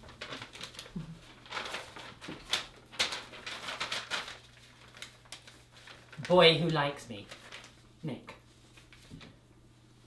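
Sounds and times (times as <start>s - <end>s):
paper rustling: 0.0s - 9.4s.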